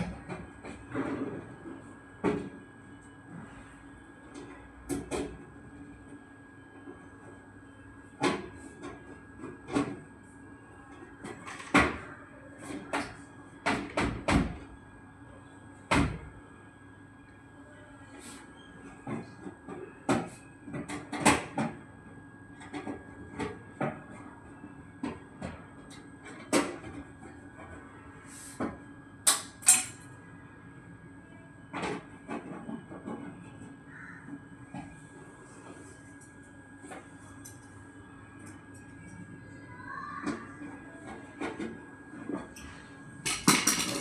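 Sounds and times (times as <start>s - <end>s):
faint high whine and hum: 0.0s - 44.0s.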